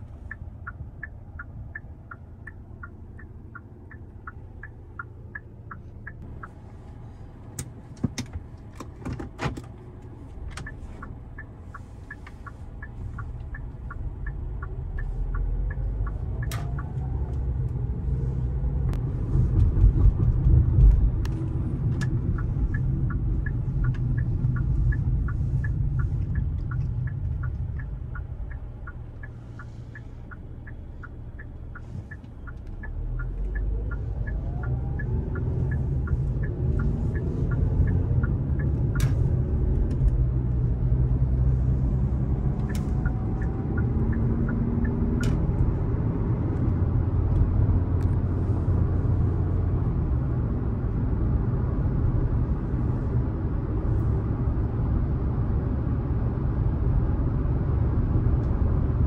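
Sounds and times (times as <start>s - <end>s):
turn signal ticking: 0.0s - 9.0s, 9.6s - 59.0s
car engine and road noise: 0.0s - 59.0s.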